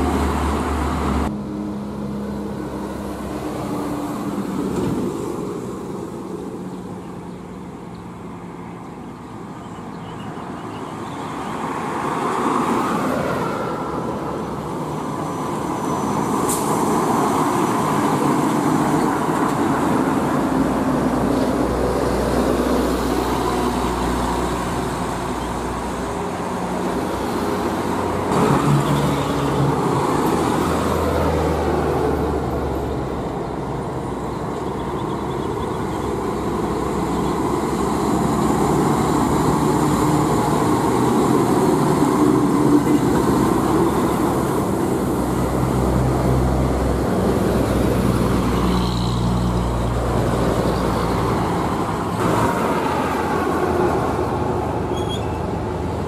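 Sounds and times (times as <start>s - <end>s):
diesel trucks droning: 0.0s - 8.2s, 11.7s - 56.0s
tyre and traffic noise: 0.0s - 56.0s.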